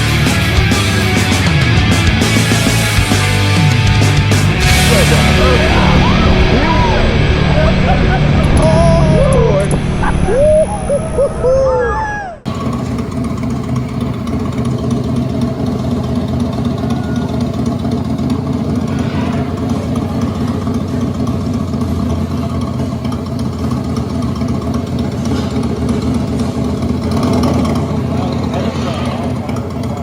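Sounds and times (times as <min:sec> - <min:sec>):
motorcycle engine idling: 0:00.0 - 0:11.8, 0:12.4 - 0:30.0.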